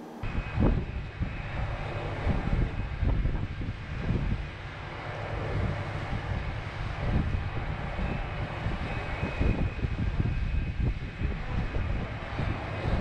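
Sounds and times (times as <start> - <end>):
distant rocket booster rumble: 0.0 - 13.0
wind buffeting microphone: 0.2 - 13.0.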